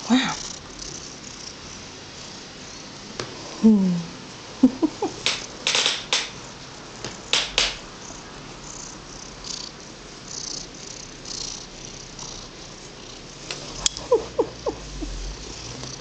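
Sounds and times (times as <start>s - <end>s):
cat purring: 0.0s - 5.5s, 7.2s - 16.0s.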